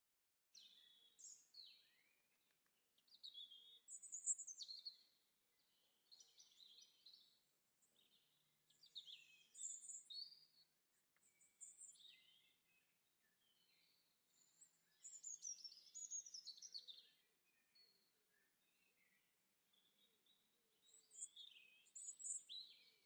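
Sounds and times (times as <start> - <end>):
songbirds chirping: 0.6 - 23.0.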